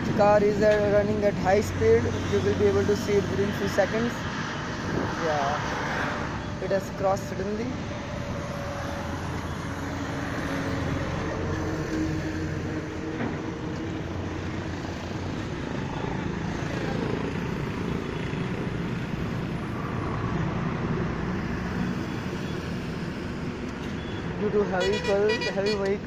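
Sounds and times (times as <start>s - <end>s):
highway traffic passing: 0.0s - 26.0s.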